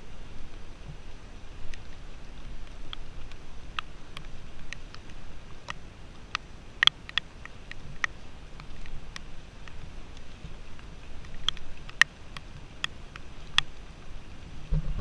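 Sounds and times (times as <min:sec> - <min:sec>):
low steady rumble: 0:00.0 - 0:15.0
raindrops ticking: 0:00.0 - 0:15.0.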